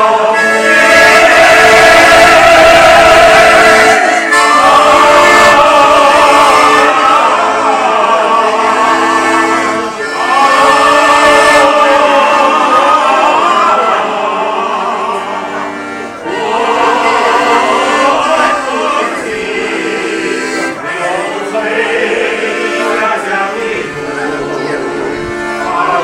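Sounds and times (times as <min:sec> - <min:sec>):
accordion chords: 0:00.0 - 0:26.0
group of people singing: 0:00.0 - 0:26.0.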